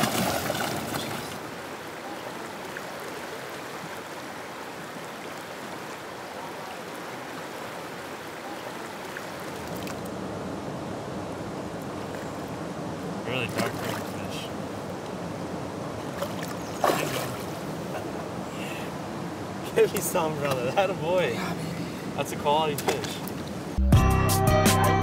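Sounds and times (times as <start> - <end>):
river water rushing: 0.0 - 23.8.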